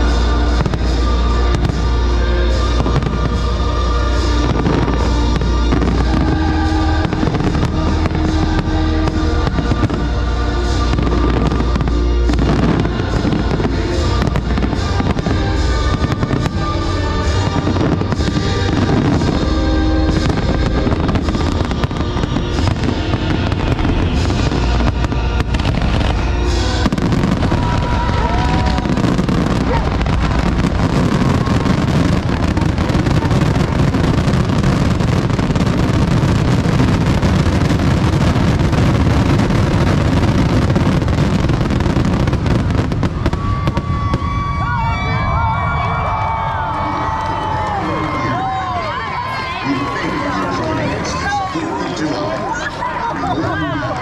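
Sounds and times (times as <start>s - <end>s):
fireworks bursting: 0.0s - 54.0s
loud music: 0.0s - 54.0s.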